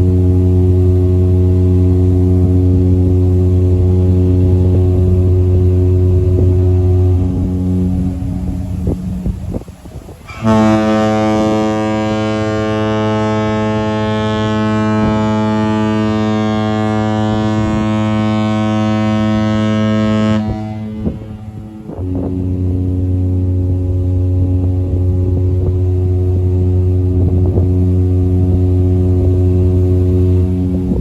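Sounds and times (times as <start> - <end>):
ship's horn long deep blast: 0.0 - 31.0
steady deep tone: 0.0 - 31.0.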